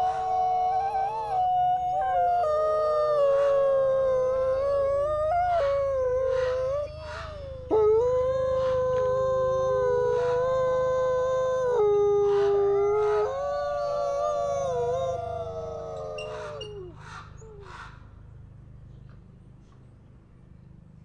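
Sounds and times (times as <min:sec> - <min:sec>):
wolves howling: 0:00.0 - 0:17.8.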